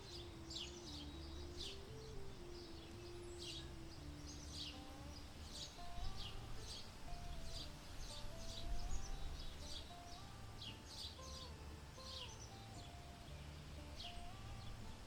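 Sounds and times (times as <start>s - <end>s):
birds chirping: 0.0s - 15.0s
low rumbling background: 0.0s - 15.0s.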